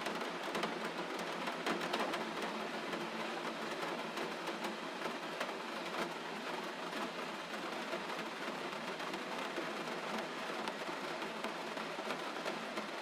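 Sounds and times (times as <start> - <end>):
steady gentle rain: 0.0 - 13.0.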